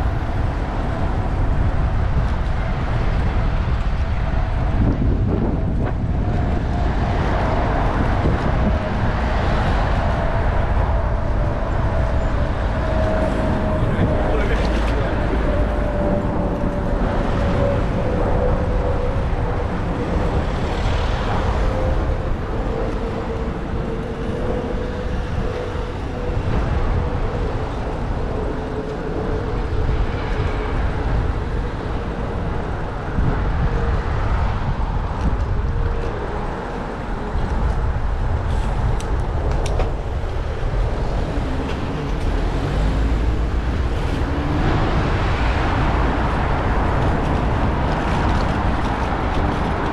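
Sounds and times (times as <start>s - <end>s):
city road traffic: 0.0s - 49.9s
wind rushing into microphone: 0.0s - 49.9s.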